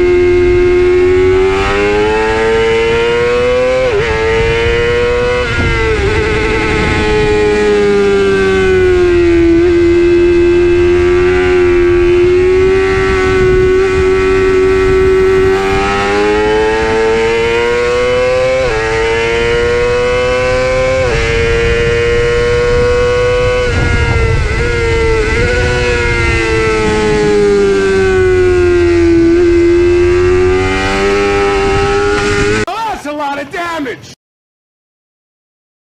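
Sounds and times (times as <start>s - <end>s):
motorcycle engine running hard: 0.0s - 32.7s.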